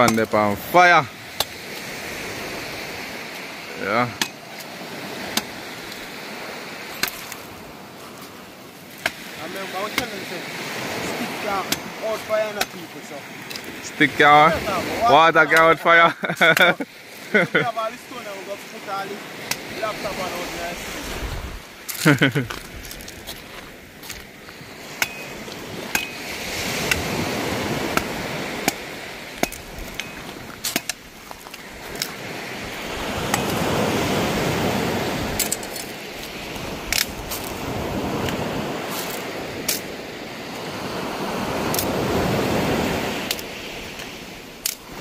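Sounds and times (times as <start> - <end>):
waves washing onto shore: 0.0 - 45.0.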